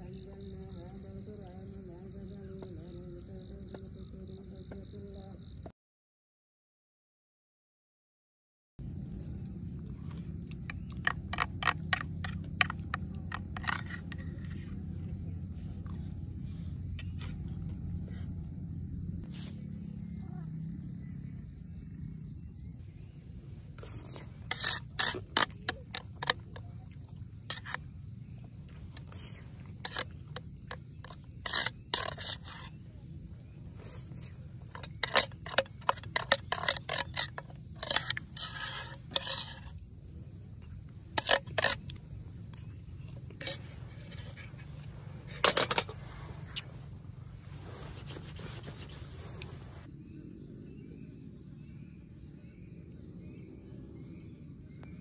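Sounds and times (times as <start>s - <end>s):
insects chirring: 0.0s - 5.7s, 8.8s - 55.0s.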